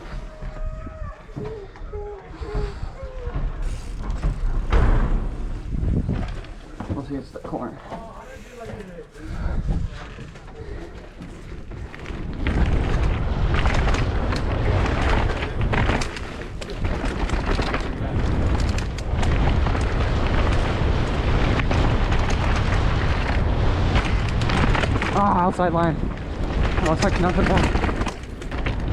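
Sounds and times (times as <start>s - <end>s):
wind buffeting microphone: 0.0s - 28.9s
bike clattering over rough ground: 2.6s - 28.9s.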